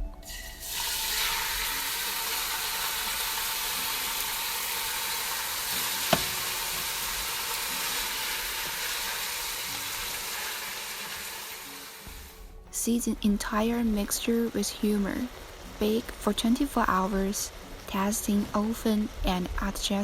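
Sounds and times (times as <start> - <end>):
food sizzling in a pan: 0.3 - 12.5, 13.5 - 20.0.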